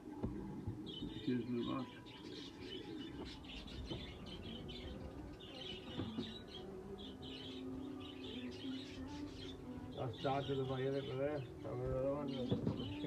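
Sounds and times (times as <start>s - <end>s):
budgerigars chirping and chattering: 0.4s - 13.0s.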